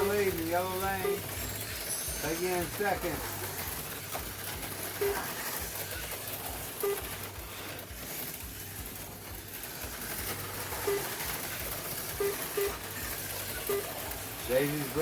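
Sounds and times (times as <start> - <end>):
slot car motors whirring: 0.0 - 15.0.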